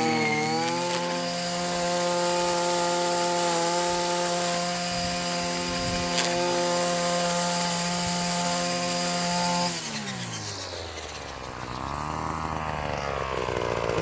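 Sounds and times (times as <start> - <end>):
string trimmer engine whining: 0.0 - 14.0.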